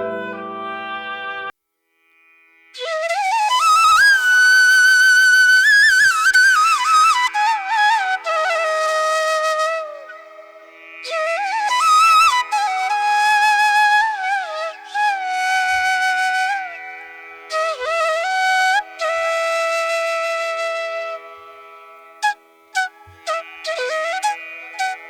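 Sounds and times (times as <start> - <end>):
flute playing slow melody: 0.0 - 1.5, 2.8 - 25.0.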